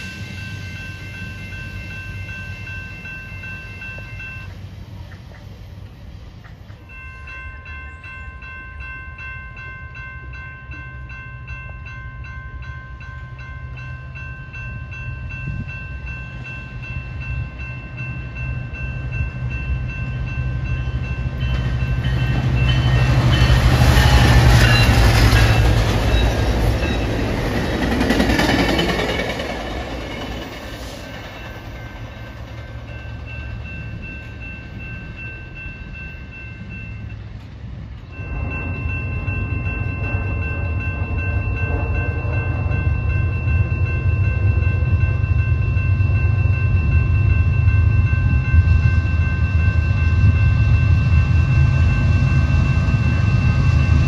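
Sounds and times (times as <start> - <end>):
railroad crossing bells ringing: 0.0 - 54.0
train passing: 0.0 - 54.0.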